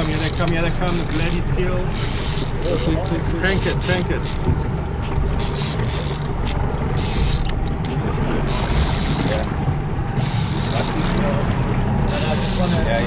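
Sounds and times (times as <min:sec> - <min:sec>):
motorboat engine rumble: 0:00.0 - 0:13.0.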